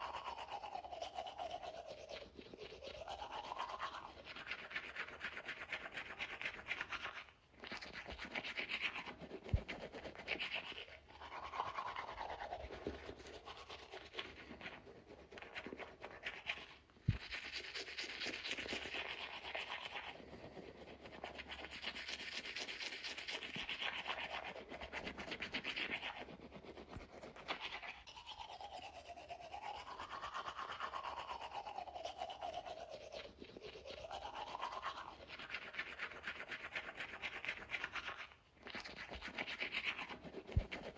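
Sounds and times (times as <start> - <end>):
toothbrush scrubbing teeth: 0.0 - 40.9.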